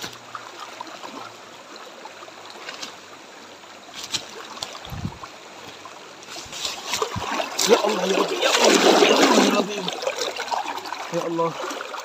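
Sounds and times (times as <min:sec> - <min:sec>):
river water rushing and gurgling: 0:00.0 - 0:12.0.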